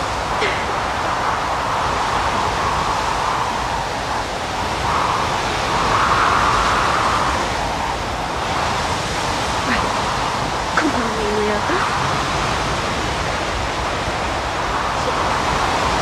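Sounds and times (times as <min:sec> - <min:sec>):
strong wind gusting: 0:00.0 - 0:16.0.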